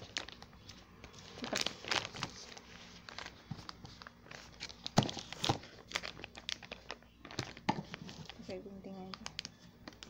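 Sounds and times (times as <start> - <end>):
plastic mailer bag crinkling: 0.0 - 0.5, 1.1 - 10.0.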